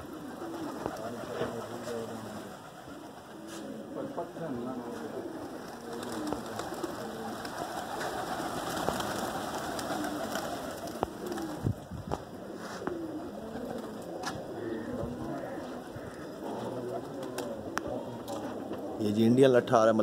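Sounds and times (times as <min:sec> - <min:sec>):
rush of wingbeats: 0:00.0 - 0:19.0
pigeons cooing: 0:00.0 - 0:19.4.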